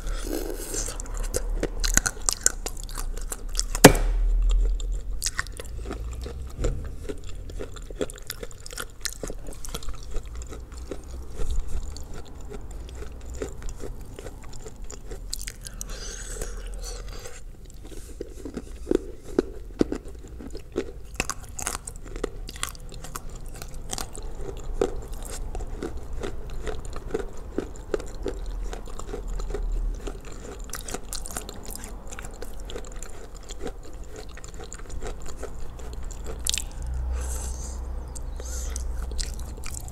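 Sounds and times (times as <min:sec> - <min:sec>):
crunchy clay chewing: 0:00.0 - 0:39.9.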